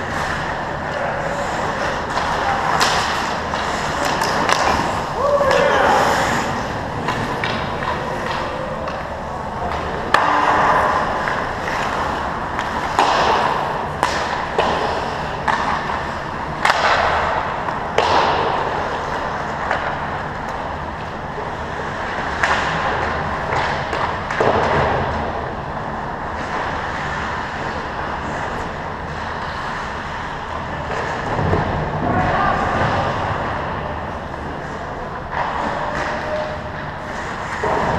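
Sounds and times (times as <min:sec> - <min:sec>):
skate blades scraping ice: 0:00.0 - 0:25.4, 0:26.0 - 0:31.7, 0:32.6 - 0:37.9
hockey sticks and puck knocks: 0:00.0 - 0:25.5, 0:26.1 - 0:37.9.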